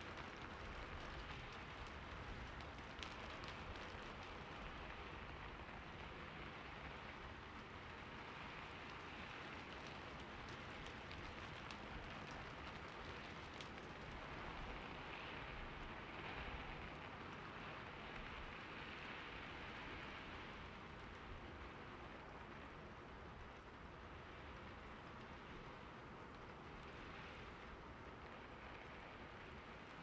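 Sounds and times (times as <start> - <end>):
rain on a roof: 0.0 - 30.0.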